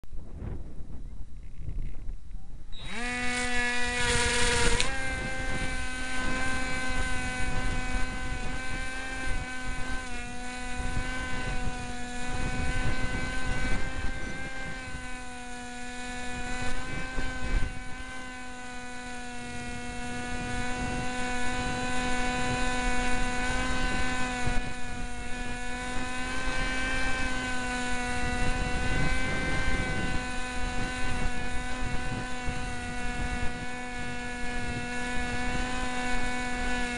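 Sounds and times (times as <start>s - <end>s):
wind buffeting microphone: 0.1s - 36.9s
model plane motor and propeller: 0.5s - 36.9s.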